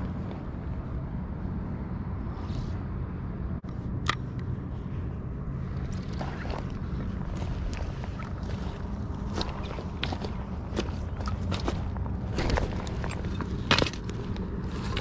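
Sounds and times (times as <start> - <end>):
low rumble and hum: 0.0 - 15.0.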